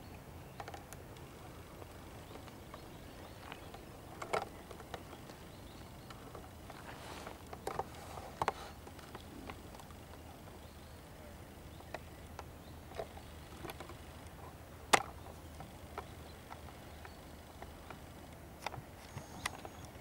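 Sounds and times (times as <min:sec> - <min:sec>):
faint steady background: 0:00.0 - 0:20.0.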